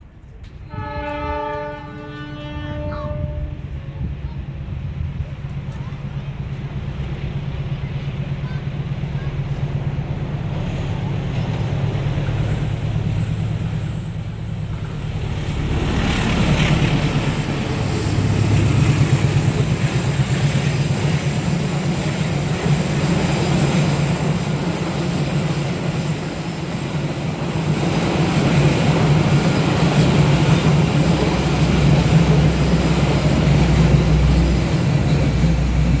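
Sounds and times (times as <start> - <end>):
train wheels on rails: 0.0 - 36.0
locomotive diesel engine: 5.4 - 36.0.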